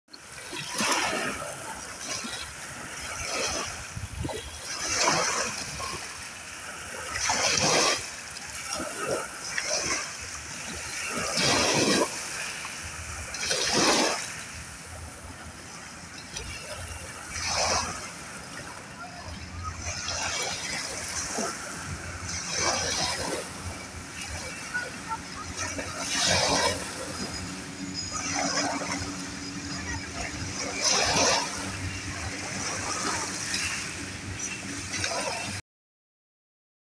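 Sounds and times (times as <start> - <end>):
small waves splashing: 0.1 - 35.6
steady wash of water: 0.1 - 35.6.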